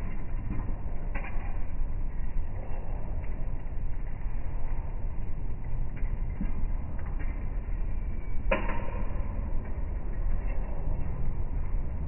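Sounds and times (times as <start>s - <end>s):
city street rumble: 0.0s - 12.0s.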